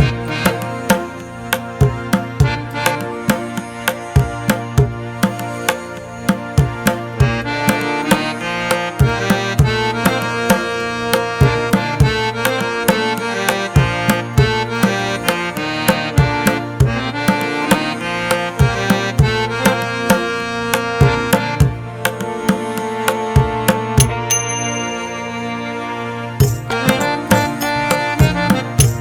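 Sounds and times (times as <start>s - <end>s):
hand drum rhythm: 0.0s - 24.5s, 26.4s - 29.0s
sustained melodic tones: 0.0s - 29.0s.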